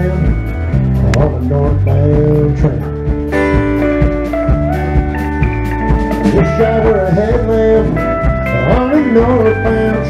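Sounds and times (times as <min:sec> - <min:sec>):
drum kit: 0:00.0 - 0:10.0
electric guitar: 0:00.0 - 0:10.0.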